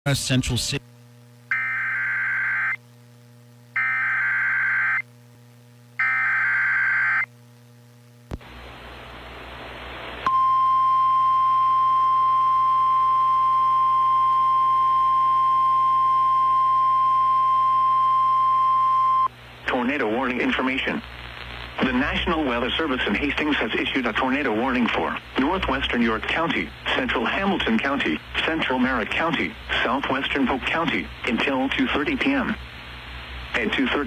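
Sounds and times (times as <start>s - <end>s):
static hiss: 0.1s - 10.3s, 13.9s - 34.0s.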